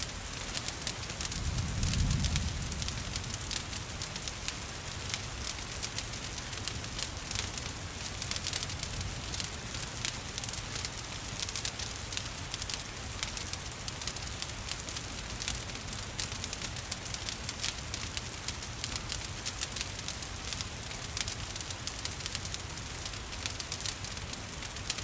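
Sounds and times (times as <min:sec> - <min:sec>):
rain falling: 0:00.0 - 0:25.0
wood fire crackling: 0:00.0 - 0:25.0.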